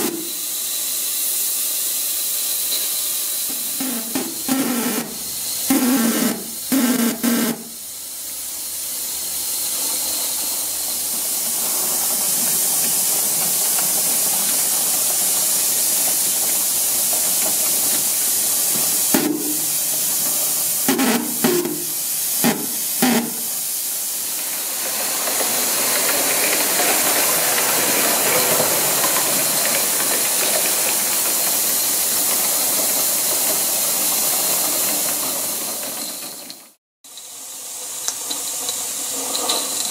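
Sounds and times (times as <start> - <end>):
model steam locomotive hissing: 0.0 - 39.9
steam bursts with knocks: 0.0 - 39.9.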